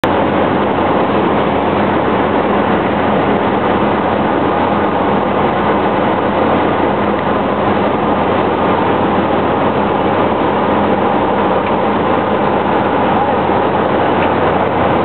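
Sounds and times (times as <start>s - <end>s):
turboprop engine cabin noise: 0.0s - 15.0s.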